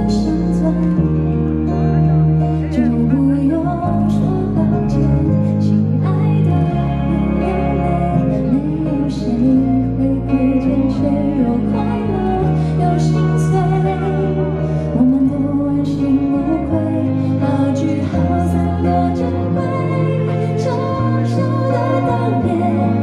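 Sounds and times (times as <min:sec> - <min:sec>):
woman singing pop ballad: 0:00.0 - 0:23.0.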